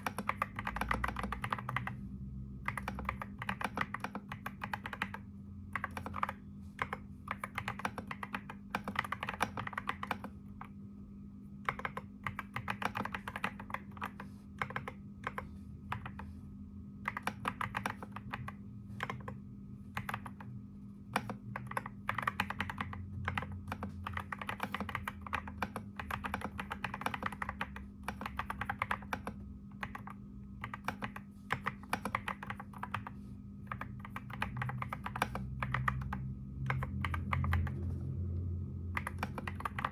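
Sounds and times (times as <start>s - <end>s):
computer keyboard typing: 0.0s - 2.0s, 2.6s - 10.8s, 11.6s - 16.4s, 17.0s - 38.1s, 38.9s - 39.9s
steady low hum: 0.0s - 39.9s.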